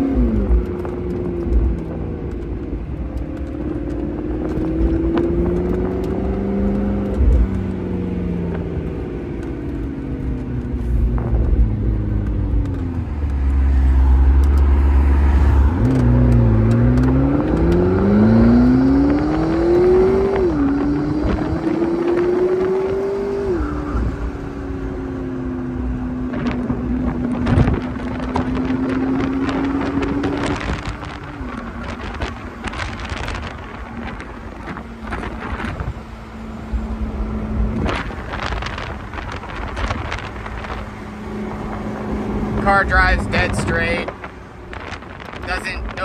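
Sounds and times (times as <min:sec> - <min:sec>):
car engine cruising: 0:00.0 - 0:46.0
wind buffeting microphone: 0:00.0 - 0:46.0.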